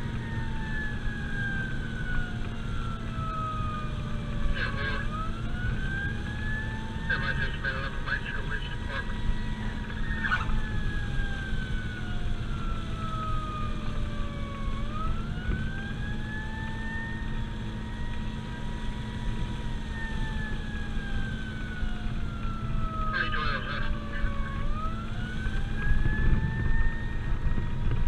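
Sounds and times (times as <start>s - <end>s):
engine drone: 0.0s - 28.0s
road noise: 0.0s - 28.0s
siren wailing: 0.0s - 28.0s.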